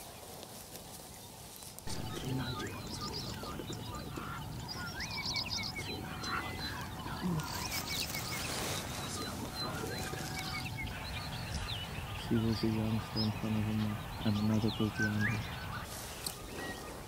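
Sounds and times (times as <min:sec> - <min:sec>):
steady low rumble: 0:01.9 - 0:15.9
birds chirping and whistling: 0:01.9 - 0:17.0.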